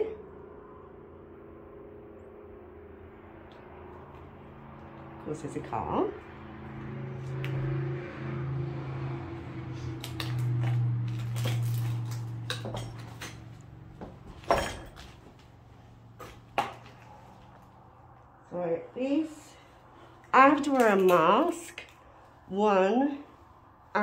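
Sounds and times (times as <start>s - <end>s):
car passing: 0.0s - 24.0s.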